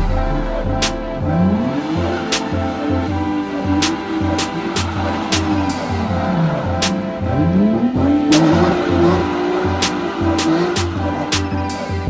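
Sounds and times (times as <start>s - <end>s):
music with pulsing bass beat: 0.0s - 12.0s.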